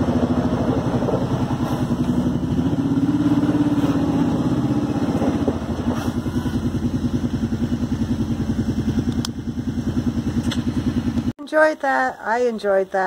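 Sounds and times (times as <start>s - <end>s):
atv engine running: 0.0s - 11.3s.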